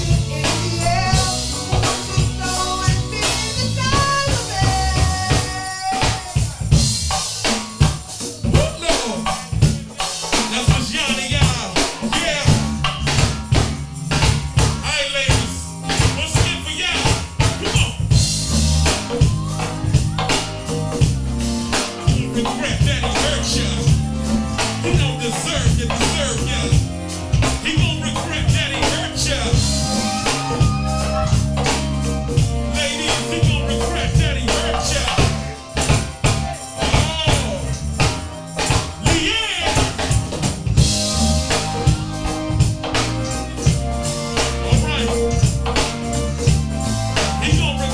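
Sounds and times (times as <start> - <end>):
background music with drums and bass: 0.0 - 47.9.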